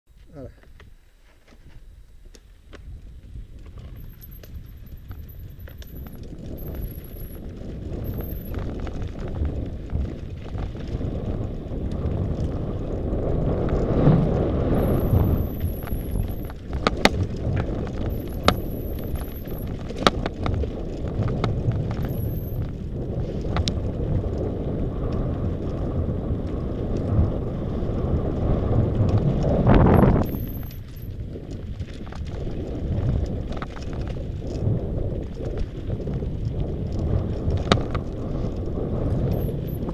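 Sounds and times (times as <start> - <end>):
bike tyres rumbling over gravel: 0.1 - 39.9
bike knocking and rattling: 0.6 - 39.9.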